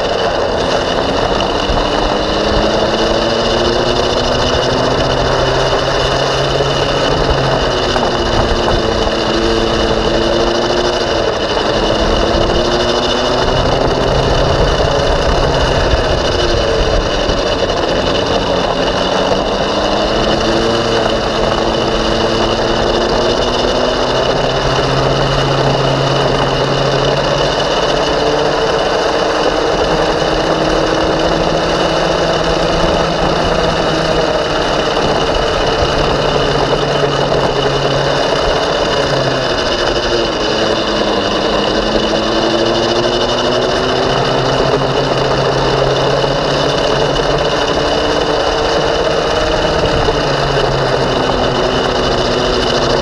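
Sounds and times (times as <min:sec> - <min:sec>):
go-kart engine revving: 0:00.0 - 0:53.0
steady rushing noise: 0:00.0 - 0:53.0.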